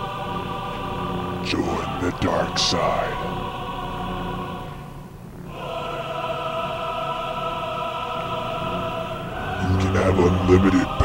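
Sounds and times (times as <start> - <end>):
choir singing sustained chords: 0.0 - 11.0.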